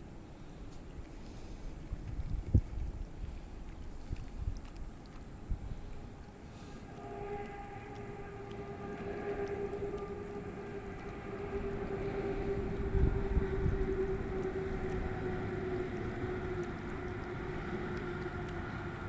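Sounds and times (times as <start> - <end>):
distant engine drone: 0.0 - 19.0
wind rumble on microphone: 1.0 - 6.3, 7.1 - 19.0.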